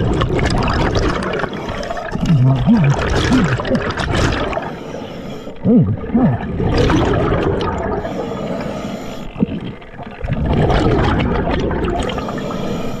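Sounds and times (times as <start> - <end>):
gurgling regulator bubbles: 0.0 - 13.0.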